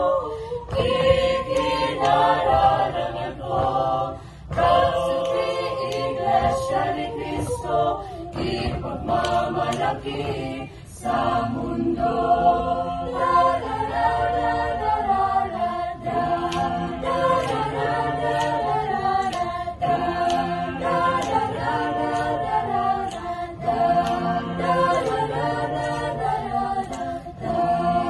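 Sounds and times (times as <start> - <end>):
choir singing a cappella: 0.0 - 28.0.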